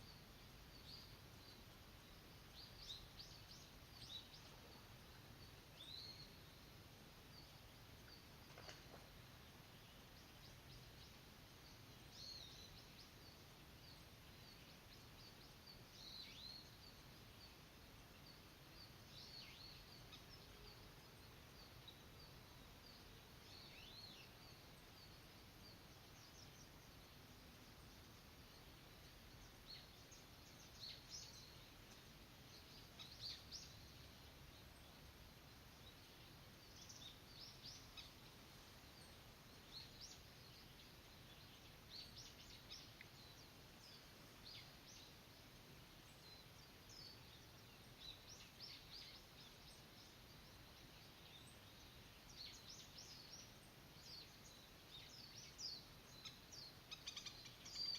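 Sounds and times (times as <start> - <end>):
faint bird chirps: 0.0 - 57.9
low background hiss: 0.0 - 57.9.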